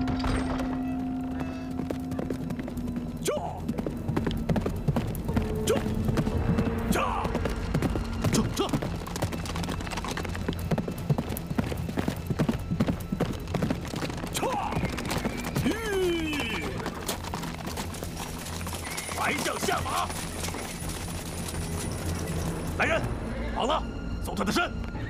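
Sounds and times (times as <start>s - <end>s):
horses galloping hoofbeats: 0.0s - 23.2s.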